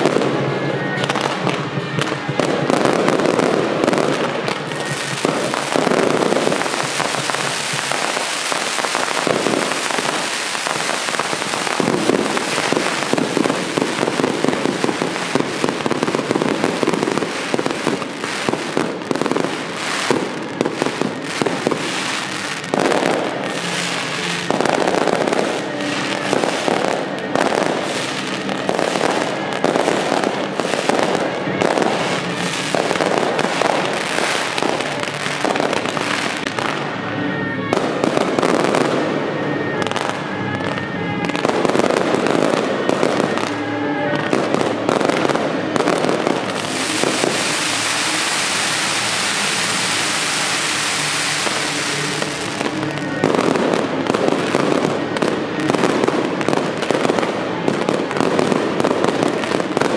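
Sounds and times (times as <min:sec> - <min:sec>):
rapid firework crackling: 0:00.0 - 0:37.0, 0:39.8 - 0:59.9
fireworks bursting: 0:00.0 - 0:59.9.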